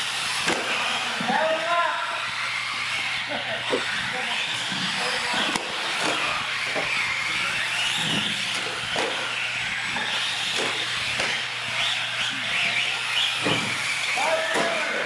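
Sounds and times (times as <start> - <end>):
toy car motor whining: 0.0 - 15.0.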